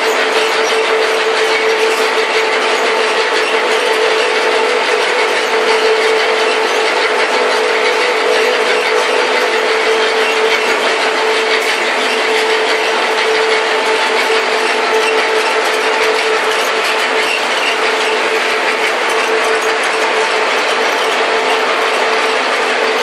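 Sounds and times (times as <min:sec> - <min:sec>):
processing machines mechanical din: 0:00.0 - 0:23.0.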